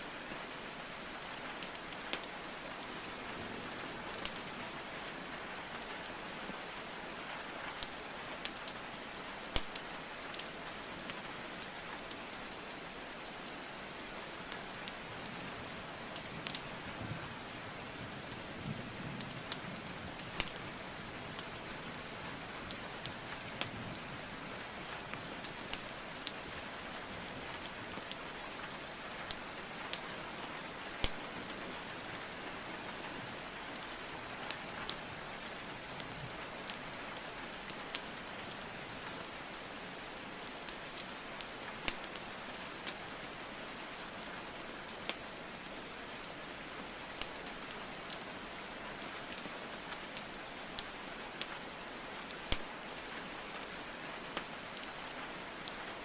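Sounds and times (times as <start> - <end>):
rainfall hiss: 0.0 - 56.0
wood fire crackling: 1.6 - 3.2, 4.1 - 5.0, 7.7 - 12.6, 14.2 - 18.6, 19.2 - 39.4, 40.0 - 56.0.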